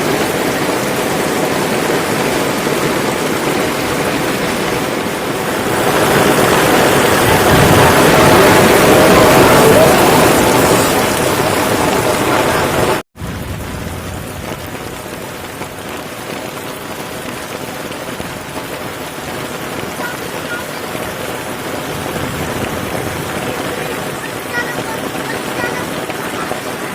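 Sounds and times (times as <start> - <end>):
rain falling: 0.0 - 26.9.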